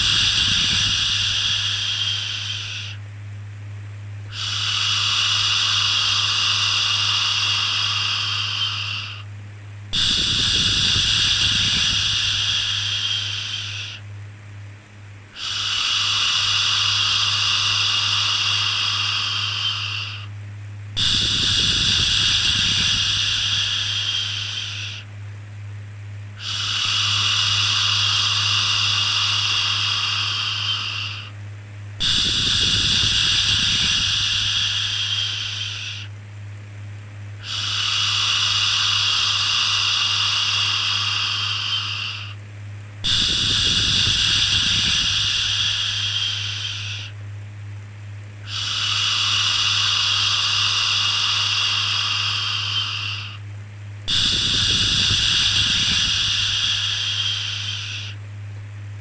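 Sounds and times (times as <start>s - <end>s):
constant low hum: 0.0s - 59.0s.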